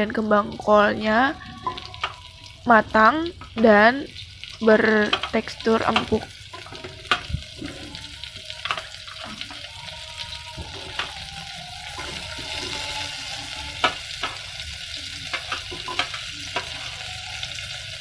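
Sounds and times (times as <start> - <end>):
vegetables sizzling in a saucepan: 0.0 - 18.0.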